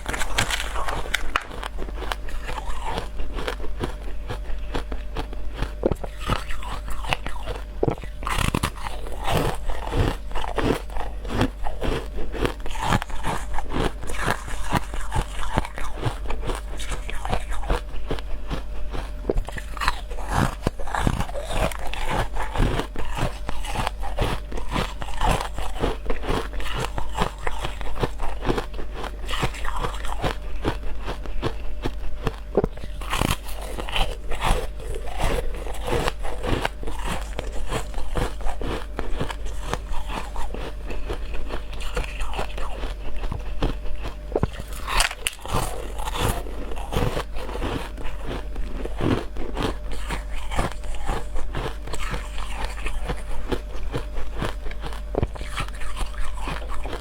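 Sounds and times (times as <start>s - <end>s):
ice being chewed: 0.0s - 57.0s
steady low hum: 0.0s - 57.0s.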